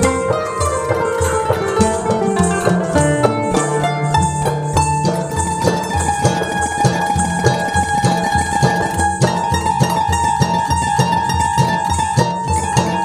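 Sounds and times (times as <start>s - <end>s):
plucked string melody: 0.0s - 13.0s.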